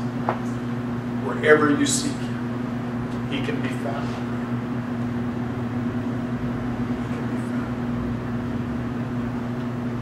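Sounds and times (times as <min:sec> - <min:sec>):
low room noise hum: 0:00.0 - 0:10.0.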